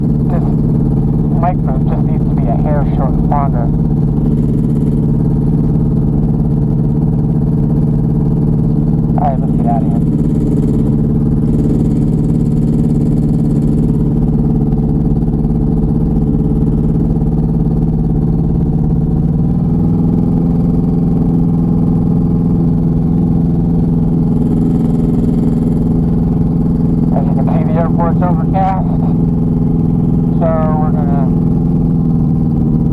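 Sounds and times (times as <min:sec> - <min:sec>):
small aircraft engine droning: 0:00.0 - 0:32.9.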